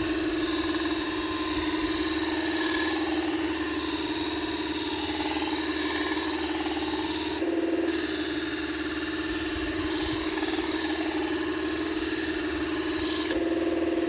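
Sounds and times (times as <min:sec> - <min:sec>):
blade grinding with hissing rasp: 0:00.0 - 0:14.0
grinder motor hum: 0:00.0 - 0:14.0.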